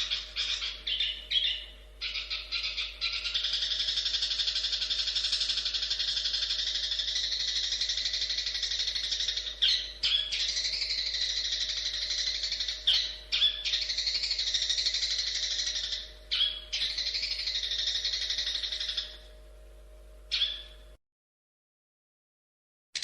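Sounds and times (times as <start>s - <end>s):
shrike singing chattering song: 0.0s - 19.4s, 20.3s - 20.9s.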